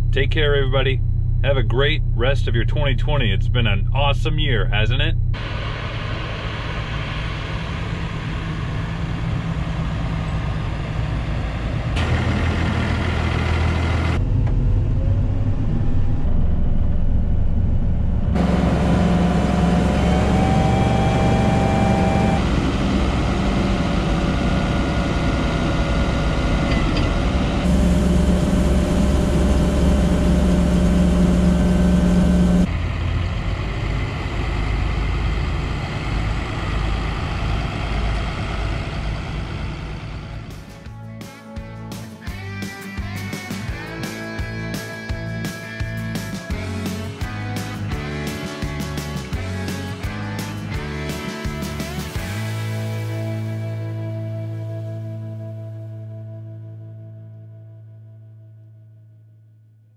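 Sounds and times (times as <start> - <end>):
farm machinery engines running: 0.0 - 53.8.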